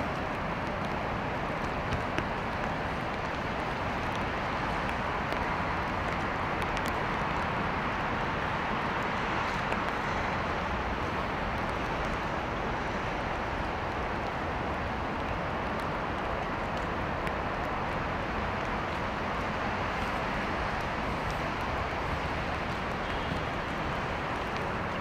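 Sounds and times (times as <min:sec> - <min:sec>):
low traffic rumble: 0:00.0 - 0:25.0
steady rain on paving: 0:00.0 - 0:25.0.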